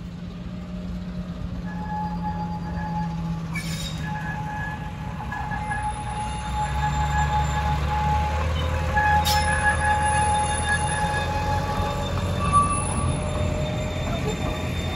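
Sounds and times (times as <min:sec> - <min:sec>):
diesel locomotive engine hum: 0:00.0 - 0:14.9
wheels squealing: 0:00.4 - 0:14.9.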